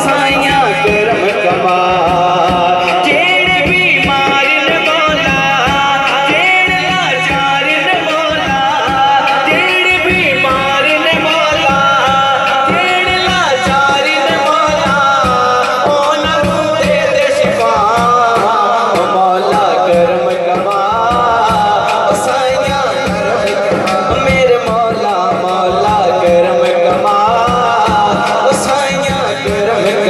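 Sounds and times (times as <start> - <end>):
man singing into microphone: 0.0 - 30.0
steady drum beat: 0.0 - 30.0.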